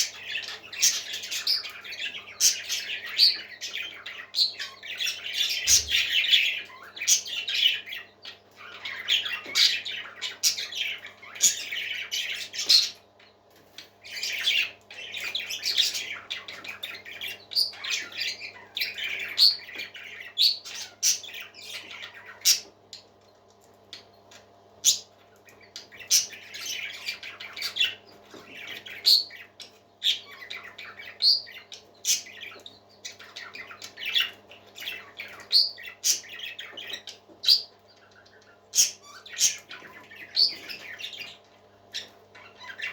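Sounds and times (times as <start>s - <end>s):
parrot chicks squawking: 0.0s - 23.2s, 23.8s - 42.9s.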